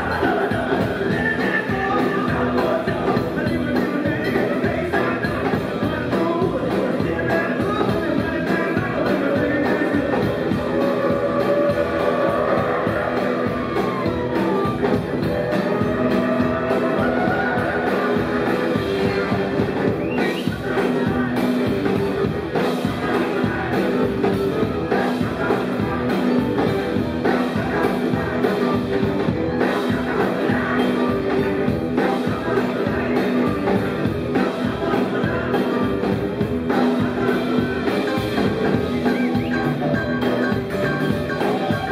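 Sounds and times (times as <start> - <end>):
electric guitar: 0.0 - 41.9
man singing: 0.0 - 41.9.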